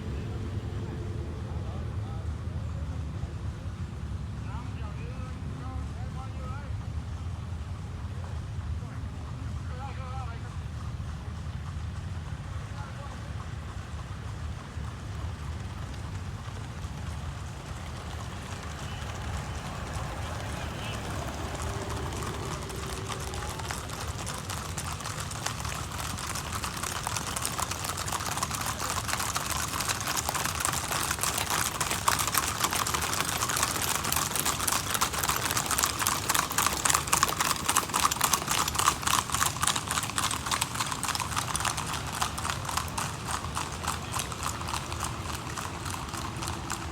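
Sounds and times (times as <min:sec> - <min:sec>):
horse hooves on hard road: 0:06.0 - 0:46.9.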